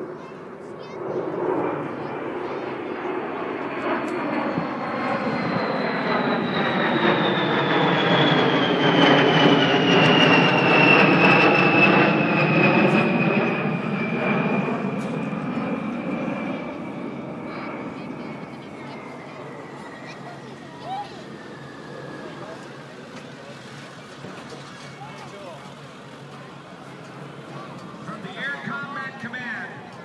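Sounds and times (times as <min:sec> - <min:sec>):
jet bomber flying by: 0:00.0 - 0:30.0.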